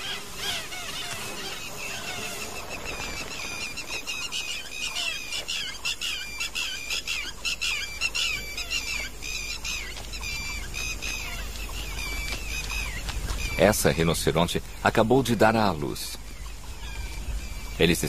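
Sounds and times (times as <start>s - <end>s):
birds chirping: 0.0s - 18.0s
low background rumble: 1.6s - 18.0s.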